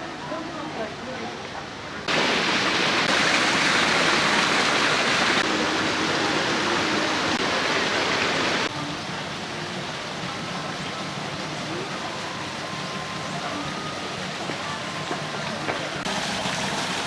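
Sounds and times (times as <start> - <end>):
rush of falling water: 0.0 - 17.0.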